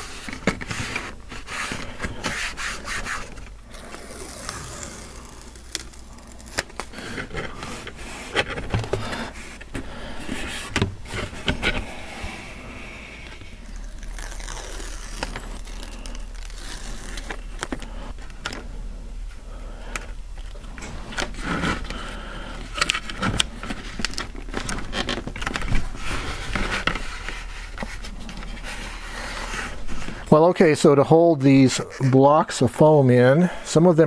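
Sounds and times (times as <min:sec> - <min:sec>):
scraping and rustling of foam: 0:00.0 - 0:18.2, 0:20.8 - 0:30.5.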